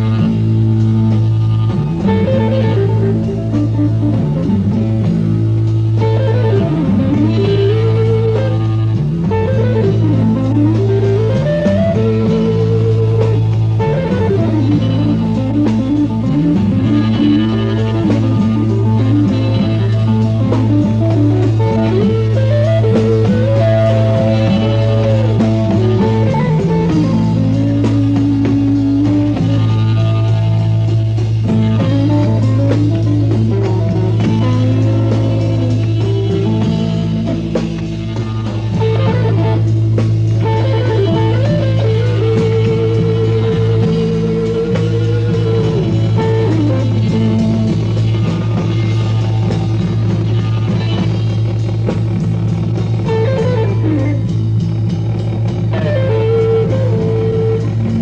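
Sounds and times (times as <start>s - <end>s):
blues rock guitar music: 0.0s - 58.0s.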